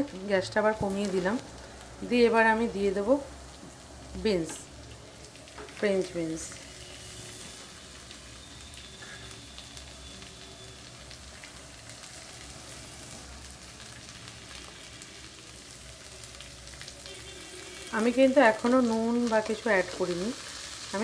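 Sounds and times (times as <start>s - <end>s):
carrots sizzling in oil: 0.0s - 21.0s.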